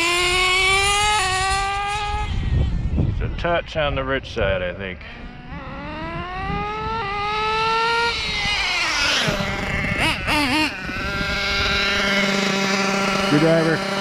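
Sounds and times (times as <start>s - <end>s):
small nitro engine revving: 0.0s - 3.2s, 5.1s - 14.0s.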